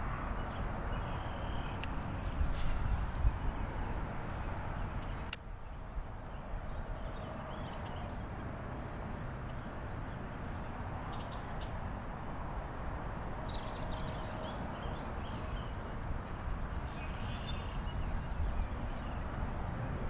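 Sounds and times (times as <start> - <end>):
small birds chirping: 0.0 - 12.0, 13.4 - 20.0
steady low outdoor noise: 0.0 - 20.0.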